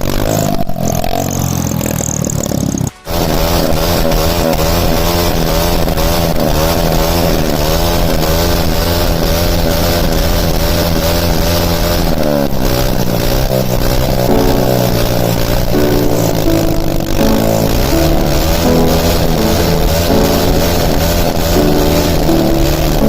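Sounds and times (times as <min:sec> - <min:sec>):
motorcycle engine running loud: 0:00.0 - 0:23.0.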